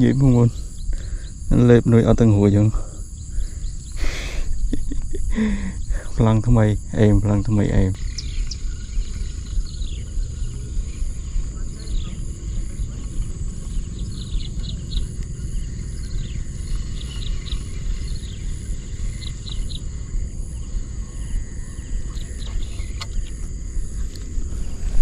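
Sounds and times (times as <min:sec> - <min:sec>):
small birds chirping: 0:00.0 - 0:25.0
wind buffeting microphone: 0:00.0 - 0:25.0.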